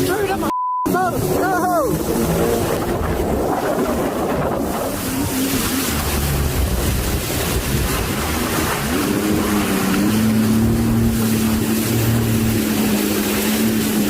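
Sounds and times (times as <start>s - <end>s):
rough water: 0.0s - 14.0s
wind buffeting microphone: 1.0s - 14.0s.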